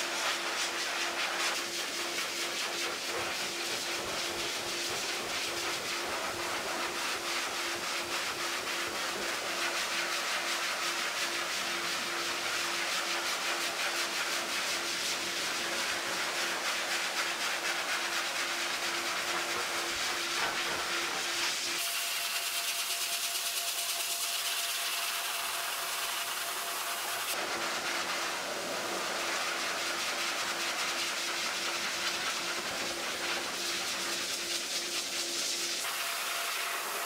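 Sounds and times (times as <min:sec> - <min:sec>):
pet dryer air hiss: 0:00.0 - 0:37.0.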